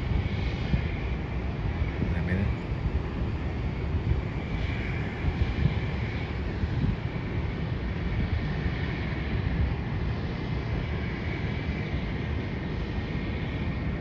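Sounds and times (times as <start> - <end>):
distant jet airliners: 0.0 - 14.0
faint steady whine: 0.0 - 14.0
wind buffeting microphone: 0.0 - 14.0.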